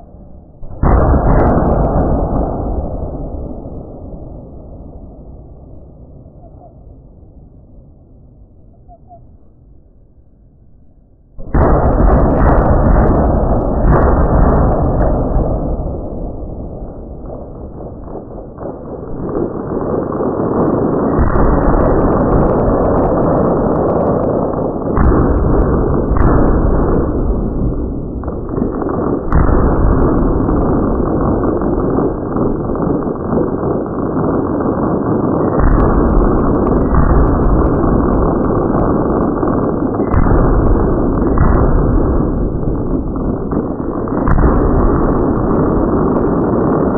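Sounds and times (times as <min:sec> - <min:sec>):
fireworks crackles: 0:00.0 - 0:04.0, 0:11.4 - 0:46.9
fireworks barrage roar: 0:00.0 - 0:07.8, 0:11.4 - 0:46.9.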